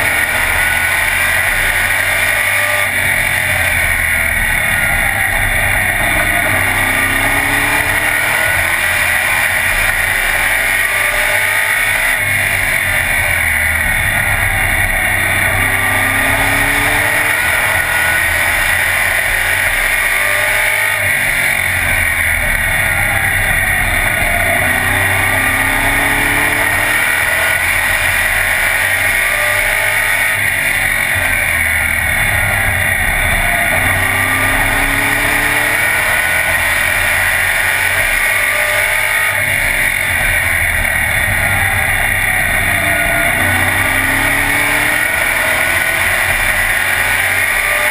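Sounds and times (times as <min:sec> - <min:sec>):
race car engine running hard: 0:00.0 - 0:47.9
wind and road noise: 0:00.0 - 0:47.9.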